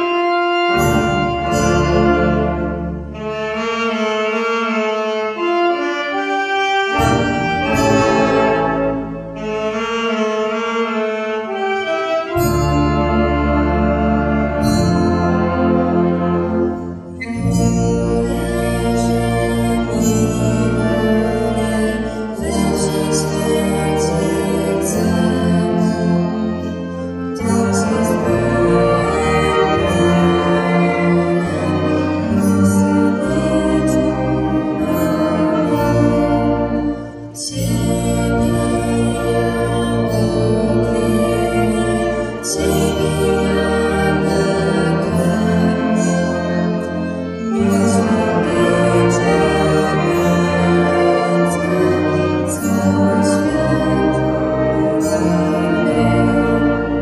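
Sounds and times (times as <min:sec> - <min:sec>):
wind band playing slow chords: 0:00.0 - 0:57.0.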